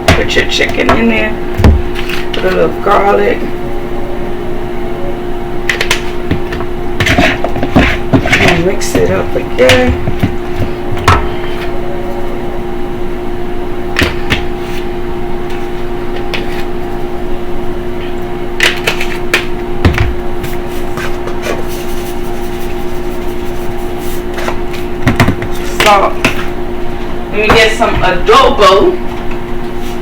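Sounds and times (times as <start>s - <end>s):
kitchen appliance hum: 0.0s - 30.0s.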